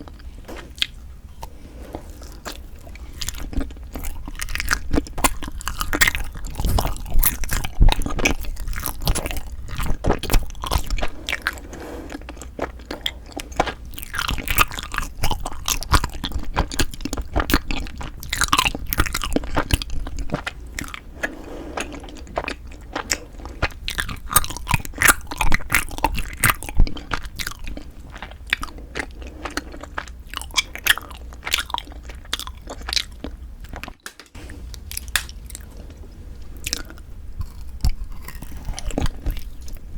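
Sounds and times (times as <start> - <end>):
crisp chewing and biting: 2.2 - 34.0, 36.6 - 39.9.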